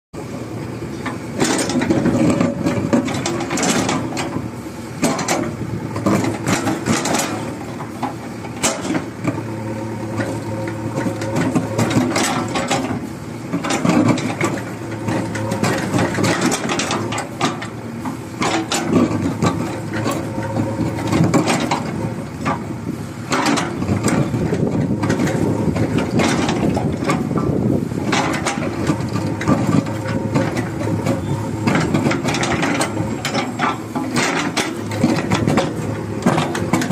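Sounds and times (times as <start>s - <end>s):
excavator diesel engine running: 0.2s - 36.9s.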